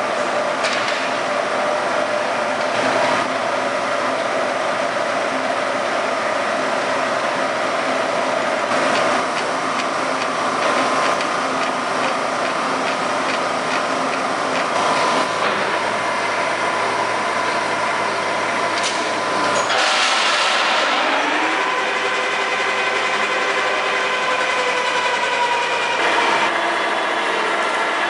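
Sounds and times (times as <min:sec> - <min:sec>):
lathe mechanical drone: 0:00.0 - 0:28.0.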